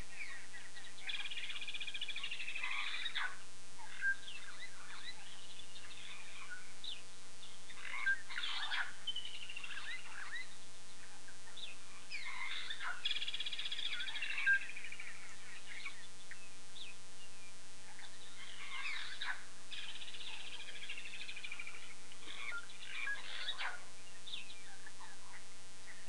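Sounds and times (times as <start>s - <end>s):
faint steady hum: 0.0s - 26.0s
bird trill: 0.1s - 17.3s, 18.0s - 26.0s
birds chirping and whistling: 0.1s - 25.2s.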